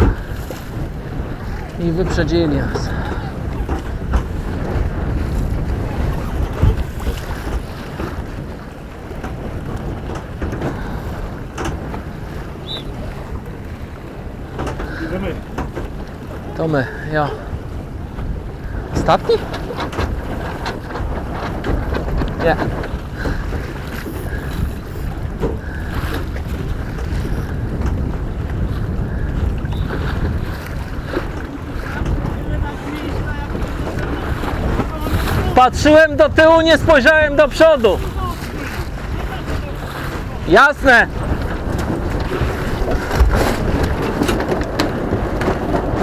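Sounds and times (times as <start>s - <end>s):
boat knocks: 0.0s - 46.0s
water rushing along hull: 0.0s - 46.0s
wind buffeting microphone: 0.0s - 46.0s.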